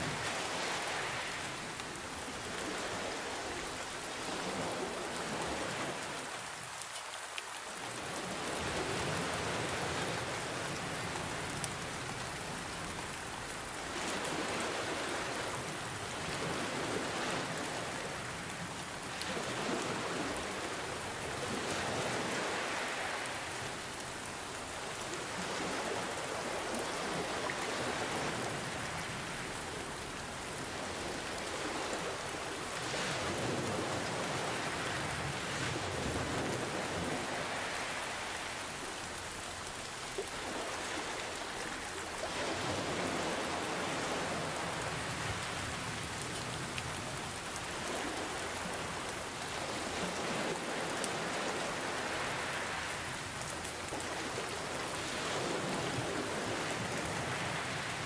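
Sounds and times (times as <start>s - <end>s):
ocean waves: 0.0s - 58.0s
rain hiss: 0.0s - 58.0s.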